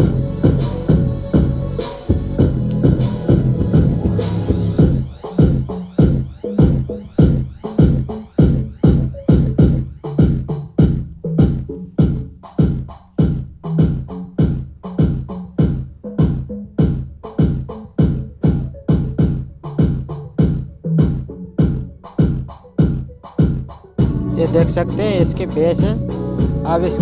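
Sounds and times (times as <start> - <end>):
electronic dance music with heavy bass: 0.0 - 27.0.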